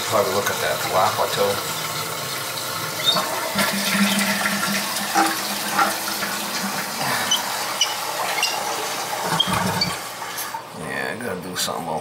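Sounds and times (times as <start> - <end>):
toilet water rushing: 0.0 - 10.9.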